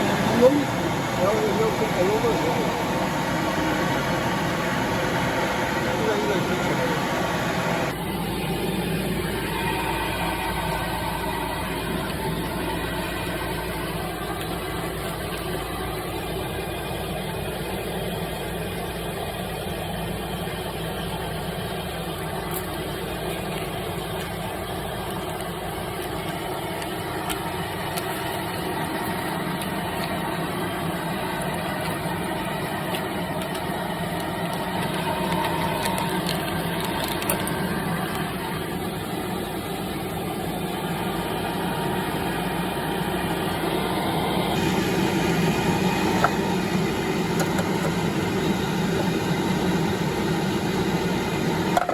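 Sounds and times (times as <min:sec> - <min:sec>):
dryer mechanical hum: 0:00.0 - 0:51.9.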